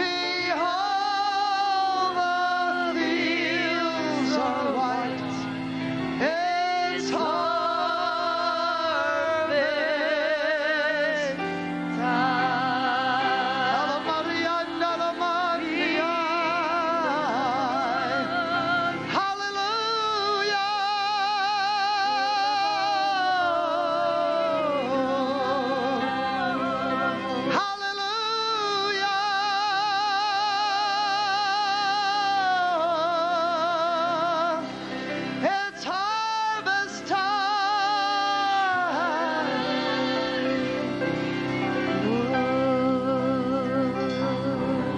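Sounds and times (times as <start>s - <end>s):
person singing with vibrato: 0.0s - 44.9s
sustained accompanying chords: 0.0s - 44.9s.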